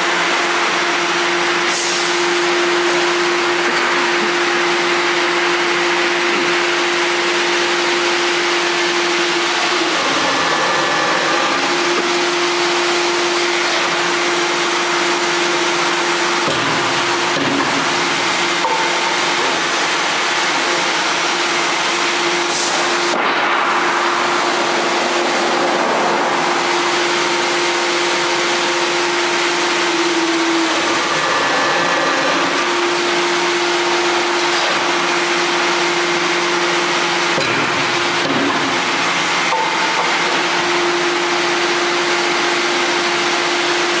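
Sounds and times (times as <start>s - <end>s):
hydraulic pump whine: 0.0s - 44.0s.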